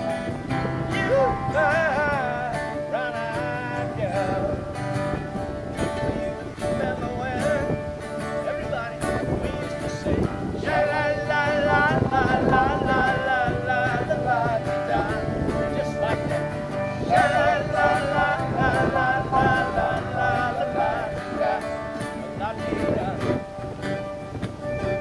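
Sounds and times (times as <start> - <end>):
man singing: 0.0 - 23.6
acoustic guitar: 0.0 - 25.0.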